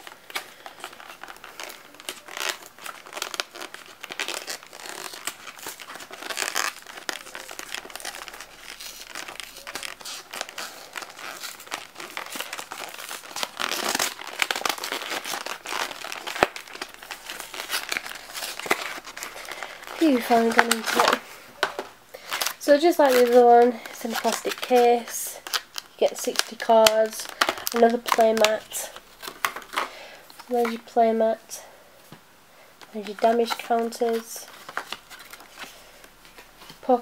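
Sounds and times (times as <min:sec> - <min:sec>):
cardboard crinkling and tearing: 0:00.0 - 0:30.9, 0:32.8 - 0:37.0.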